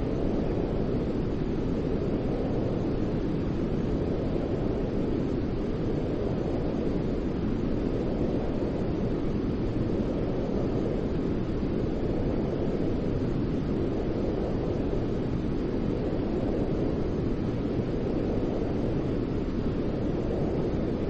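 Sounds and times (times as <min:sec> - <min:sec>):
deep rumbling white noise: 0:00.0 - 0:21.0.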